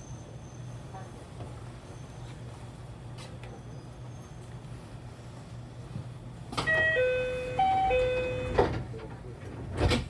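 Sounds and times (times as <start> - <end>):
low train hum: 0.0 - 10.0.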